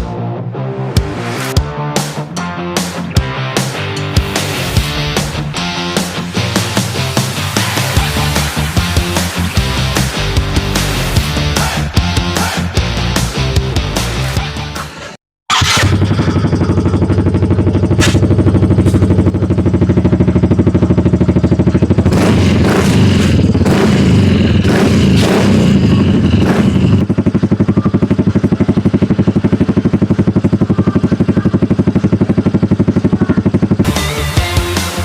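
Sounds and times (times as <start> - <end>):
scooter engine idling and revving: 2.7 - 35.0.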